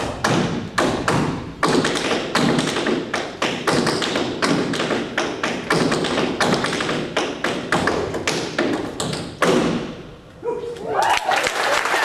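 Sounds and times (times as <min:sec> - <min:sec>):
tap shoes on wooden floor: 0:00.2 - 0:09.9.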